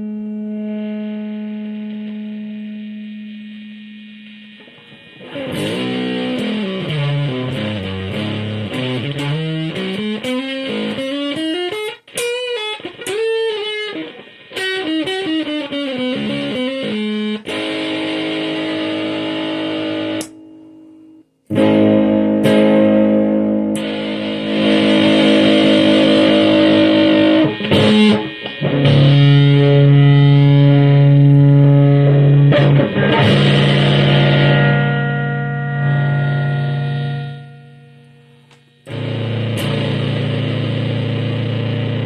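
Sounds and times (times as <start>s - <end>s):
fuzz electric guitar: 0.0s - 42.0s.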